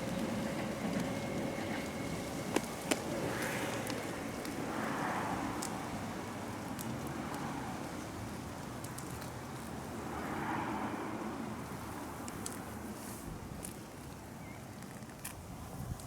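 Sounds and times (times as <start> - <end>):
distant road traffic hum: 0.0 - 16.0
vehicles passing: 0.0 - 16.0.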